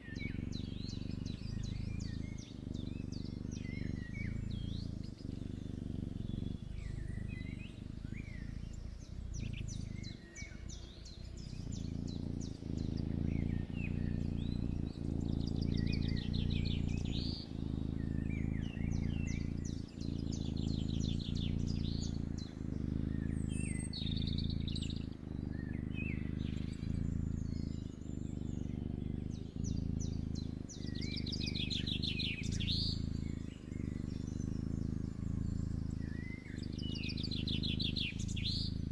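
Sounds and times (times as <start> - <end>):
kitten purring: 0.0 - 38.9
birds chirping: 0.2 - 38.9.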